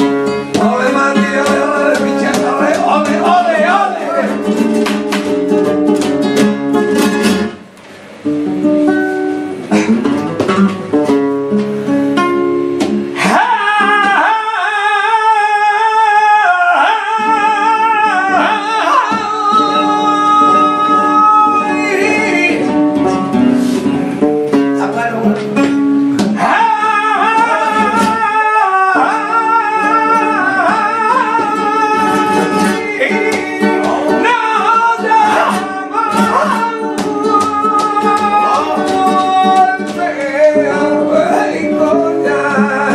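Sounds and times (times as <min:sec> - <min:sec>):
man singing ornamented lines: 0:00.0 - 0:04.8, 0:13.1 - 0:42.9
flamenco guitar strummed and plucked: 0:00.0 - 0:42.9.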